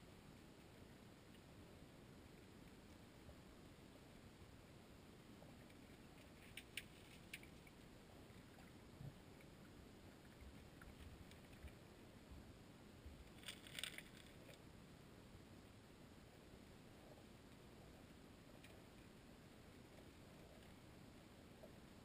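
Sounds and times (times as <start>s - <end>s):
underwater rumble of creek water: 0.0s - 22.0s.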